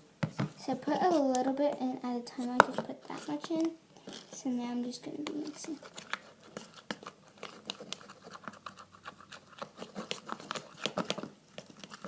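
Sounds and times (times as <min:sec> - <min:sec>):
sticky squelches: 0:00.6 - 0:12.0.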